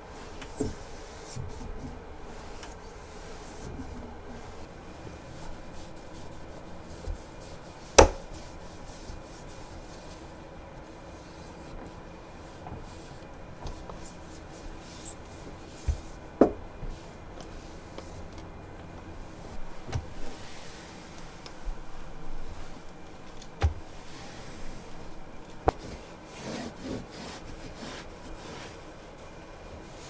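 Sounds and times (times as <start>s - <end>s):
rubbing and wiping: 0.1s - 30.0s.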